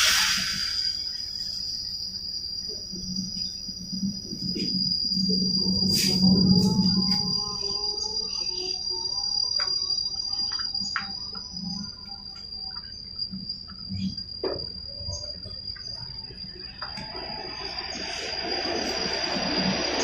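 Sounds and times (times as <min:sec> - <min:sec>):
cricket trilling: 0:00.0 - 0:20.0.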